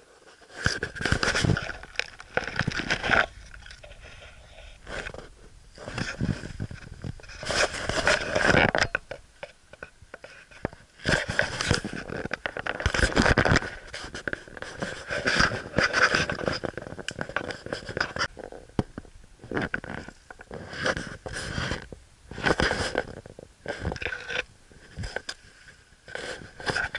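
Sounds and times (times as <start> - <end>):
rustling and scraping in brush: 0.0 - 18.7, 19.4 - 26.9.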